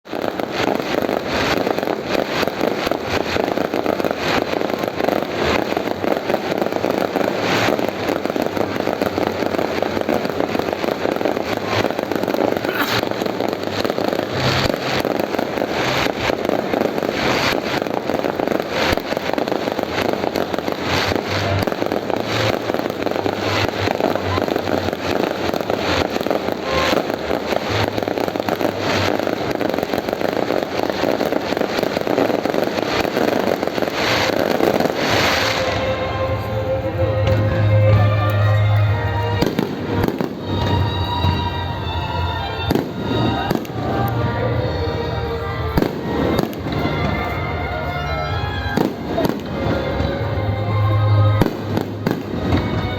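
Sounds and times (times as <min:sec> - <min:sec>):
fireworks bangs: 0:00.0 - 0:52.9
steady dense noise: 0:01.2 - 0:52.9.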